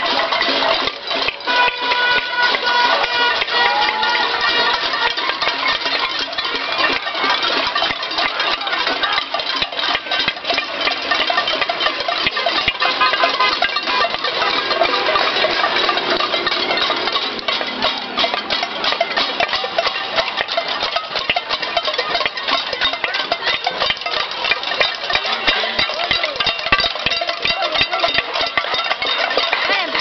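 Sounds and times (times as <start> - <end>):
crowd banging pots and pans: 0.0 - 30.0.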